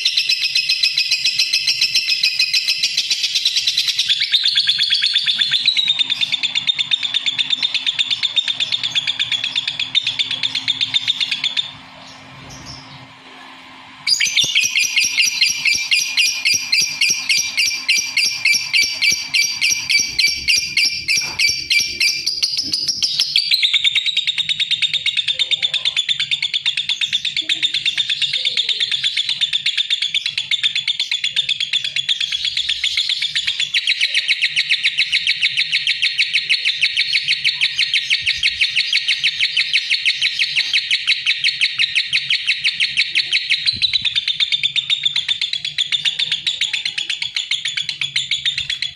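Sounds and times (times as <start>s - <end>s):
lovebird chirping: 0.0s - 13.1s, 14.1s - 48.9s.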